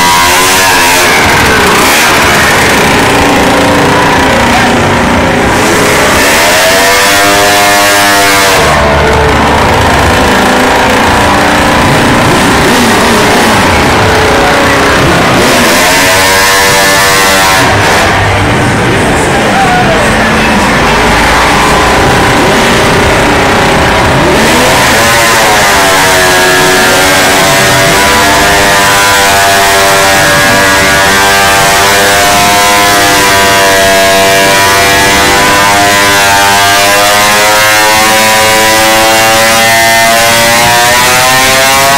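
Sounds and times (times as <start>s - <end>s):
engine revving: 0.0s - 41.9s
motorcycle engines running: 0.0s - 41.9s.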